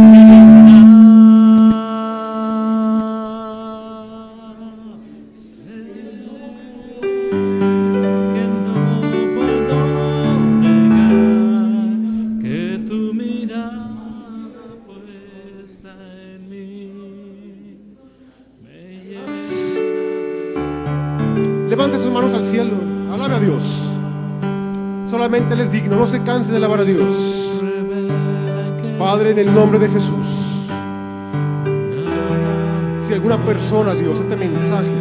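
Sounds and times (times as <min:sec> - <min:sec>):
slow worship music on keyboard: 0:00.0 - 0:35.0.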